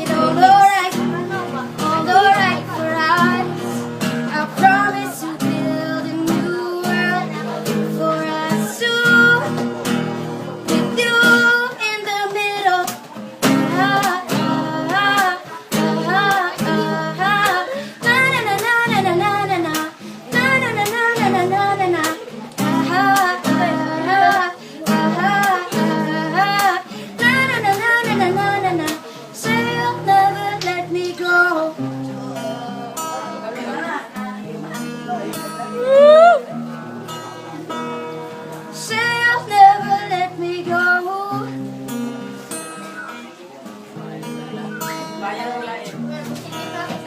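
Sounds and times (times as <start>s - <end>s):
woman singing: 0.0s - 9.7s, 10.6s - 36.6s, 38.6s - 41.9s
acoustic guitar: 0.0s - 47.0s.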